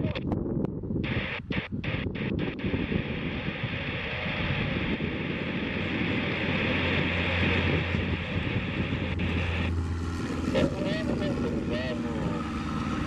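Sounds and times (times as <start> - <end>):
airplane engine and propeller drone: 0.0 - 13.0
wind on microphone: 0.0 - 13.0.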